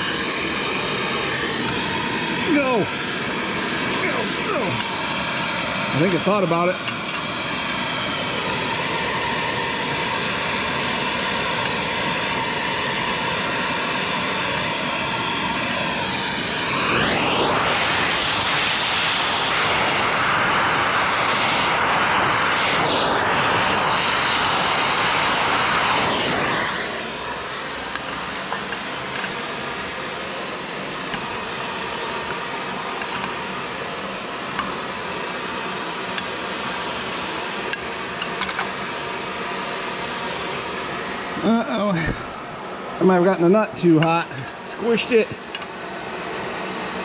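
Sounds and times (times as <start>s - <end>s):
gas torch flame hissing: 0.0s - 47.0s.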